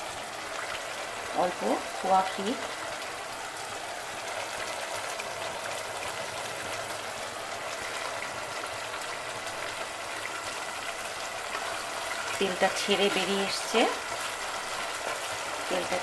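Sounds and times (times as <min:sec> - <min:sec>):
gravy bubbling and sizzling in oil: 0:00.0 - 0:16.0.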